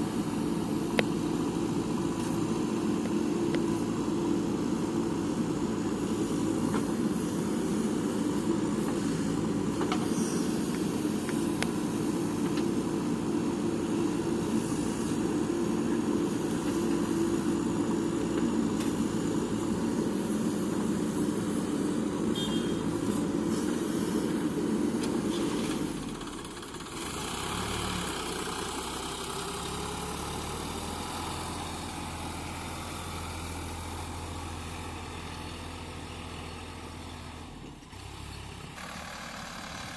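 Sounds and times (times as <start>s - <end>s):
diesel engines running: 0.0s - 39.9s
low engine hum: 0.0s - 39.9s.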